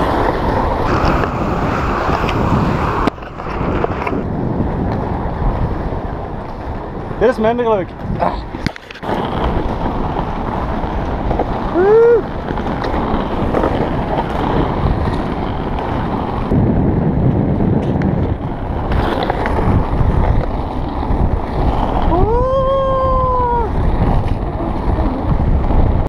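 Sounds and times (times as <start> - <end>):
inline skate wheels on asphalt: 0.0 - 26.0
wind buffeting microphone: 0.0 - 26.0.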